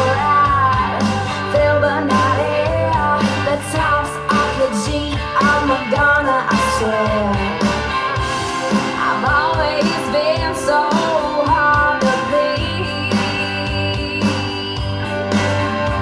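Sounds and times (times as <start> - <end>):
bass line: 0.0 - 16.0
pop-rock song over speaker: 0.0 - 16.0.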